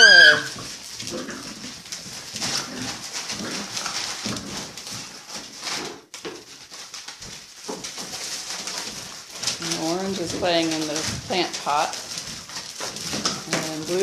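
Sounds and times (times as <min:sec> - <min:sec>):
puppies yipping and growling: 0:00.0 - 0:05.8, 0:06.7 - 0:14.0
crinkly toy rustling: 0:00.0 - 0:14.0
puppies scuffling in pen: 0:00.0 - 0:14.0.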